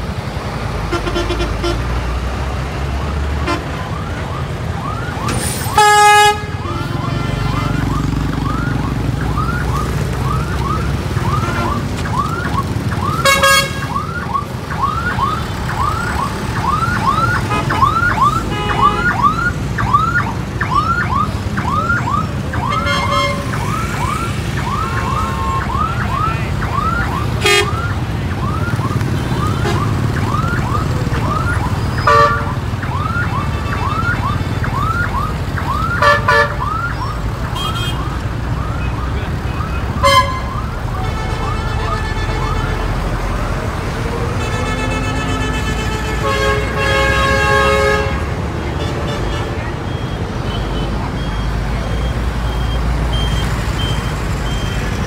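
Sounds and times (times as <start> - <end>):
truck and motorbike traffic rumble: 0.0 - 55.0
horns honking: 0.8 - 4.4, 5.2 - 19.6, 21.2 - 35.0, 35.7 - 55.0.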